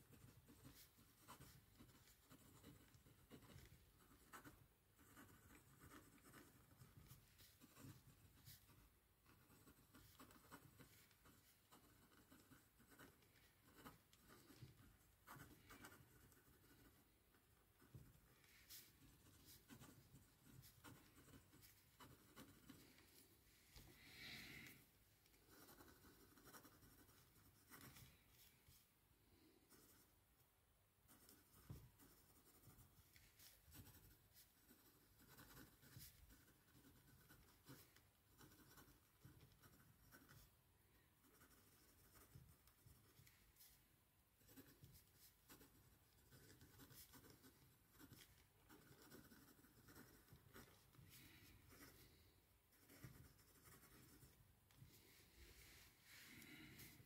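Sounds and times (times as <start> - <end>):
pen scratching on paper: 0.0 - 23.3, 24.2 - 28.8, 29.7 - 30.1, 31.1 - 40.6, 41.2 - 43.8, 44.4 - 56.0.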